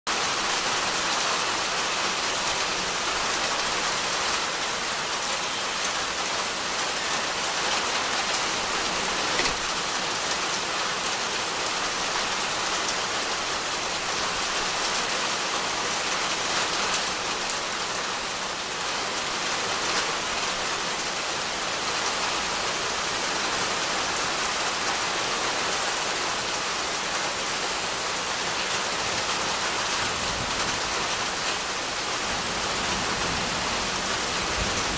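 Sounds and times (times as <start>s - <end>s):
steady rain on leaves: 0.1s - 34.9s.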